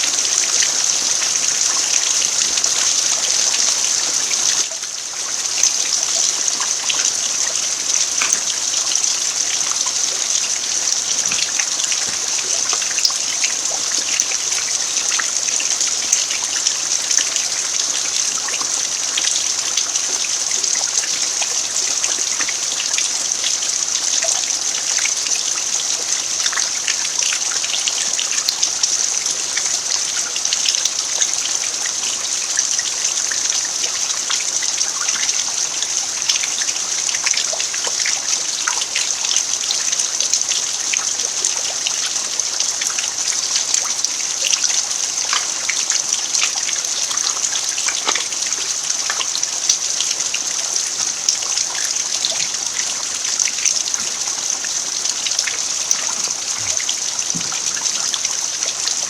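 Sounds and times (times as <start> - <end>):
raindrops striking: 0.0 - 35.6, 36.2 - 59.0
steady rain on dirt: 0.0 - 59.0.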